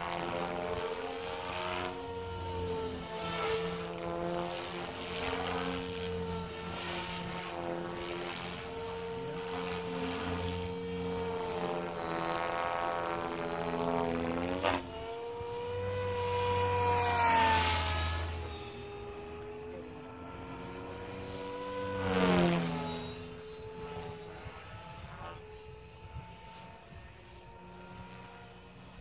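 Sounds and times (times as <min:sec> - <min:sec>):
rc helicopter rotor whine: 0:00.0 - 0:29.0.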